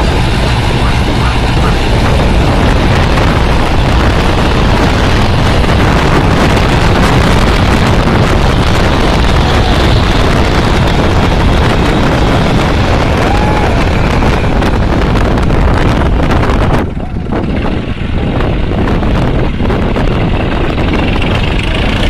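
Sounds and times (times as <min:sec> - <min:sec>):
tractor diesel engines under load: 0:00.0 - 0:22.0
wind buffeting microphone: 0:00.0 - 0:22.0.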